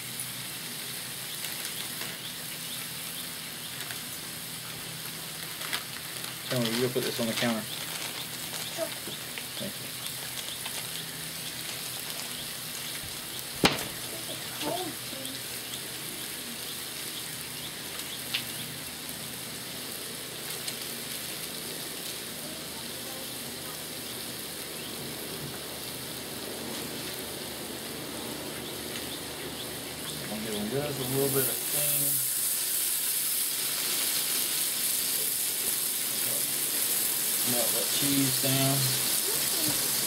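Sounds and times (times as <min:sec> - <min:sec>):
food sizzling on a griddle: 0:00.0 - 0:40.0.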